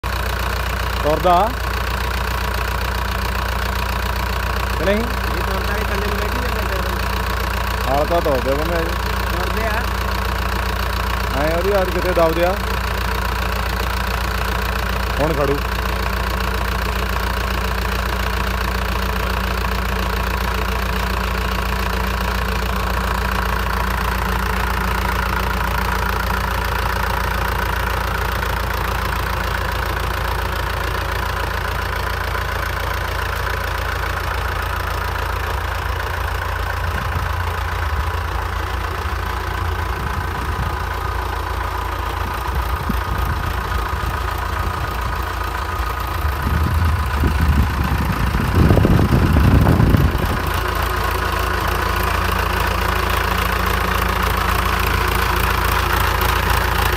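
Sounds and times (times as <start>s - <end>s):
tractor diesel engine running: 0.0s - 56.9s
uneven low rumbles: 3.3s - 56.9s.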